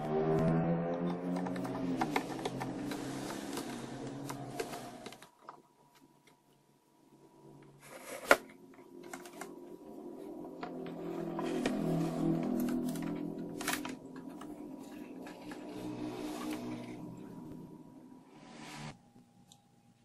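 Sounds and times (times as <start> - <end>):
soft background music: 0.0 - 20.0.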